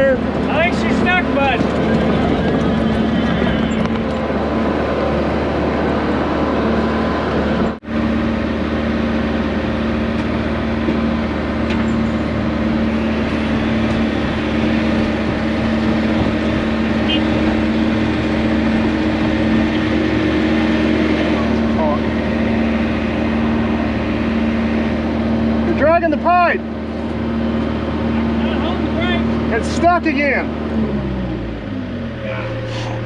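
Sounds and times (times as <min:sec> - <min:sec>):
heavy equipment diesel engine running: 0:00.0 - 0:33.0.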